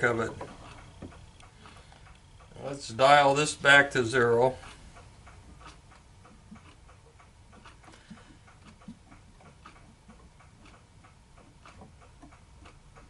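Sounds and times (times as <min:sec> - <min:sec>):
faint ticking: 0:00.0 - 0:13.0.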